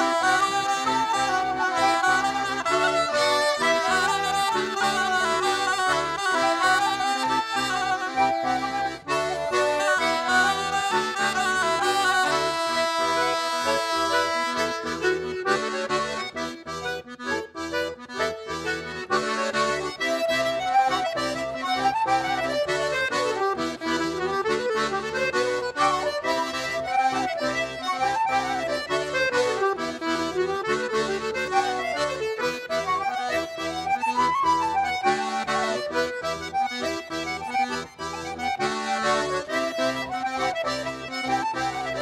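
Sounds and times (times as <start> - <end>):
accordion dance music: 0.0 - 42.0.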